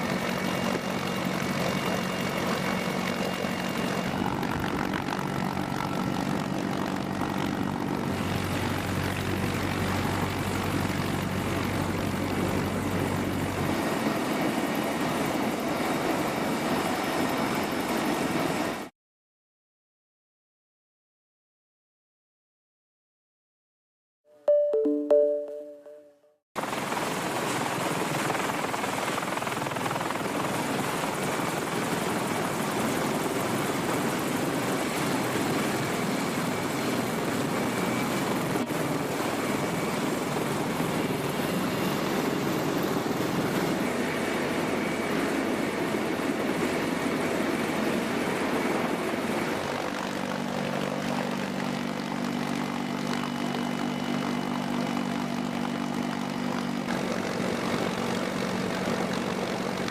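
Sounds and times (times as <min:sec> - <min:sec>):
helicopter engines and rotor: 0:00.0 - 0:18.9, 0:26.6 - 0:59.9.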